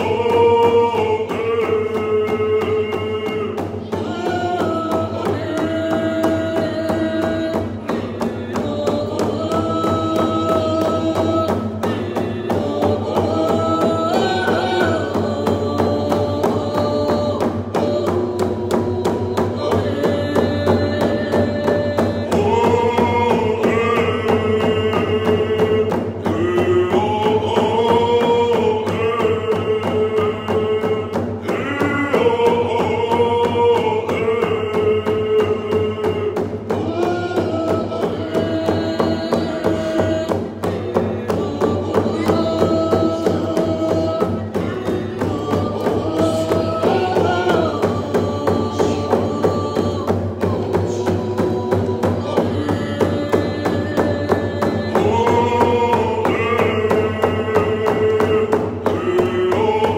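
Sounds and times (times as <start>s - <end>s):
group singing: 0.0s - 59.9s
hand drums beating: 0.0s - 59.9s.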